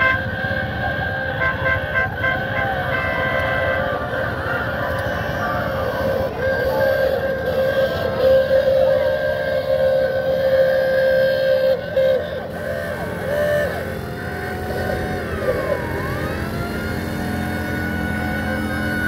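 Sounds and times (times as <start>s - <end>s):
car horns honking: 0.0s - 19.0s
siren-like wail: 0.0s - 19.0s.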